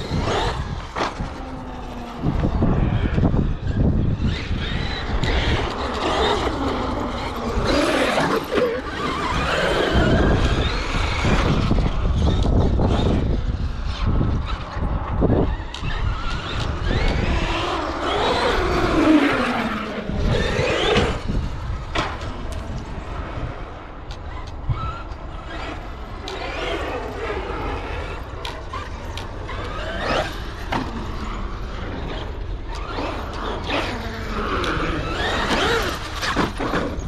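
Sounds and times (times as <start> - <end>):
rc truck motor whining: 0.0 - 37.0.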